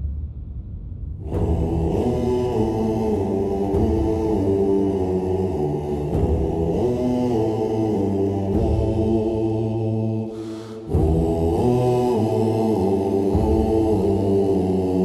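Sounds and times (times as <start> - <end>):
dark war music: 1.0 - 15.0
low chanting voices: 1.2 - 15.0.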